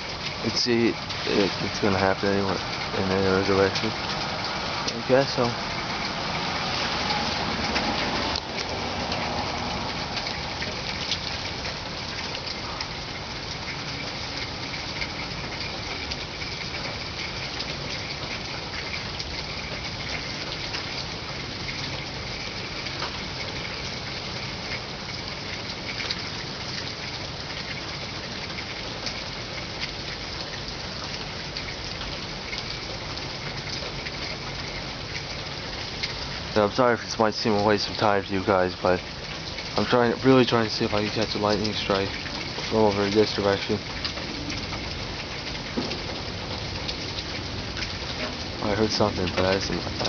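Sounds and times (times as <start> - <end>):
raindrops ticking: 0.0 - 50.0
steady rain falling: 0.0 - 50.0.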